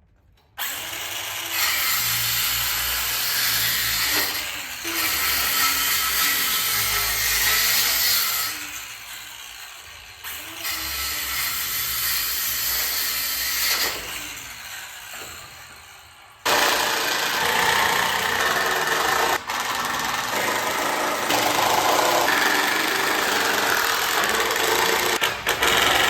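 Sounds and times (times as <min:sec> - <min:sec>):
power tools cutting lumber: 0:00.6 - 0:26.0.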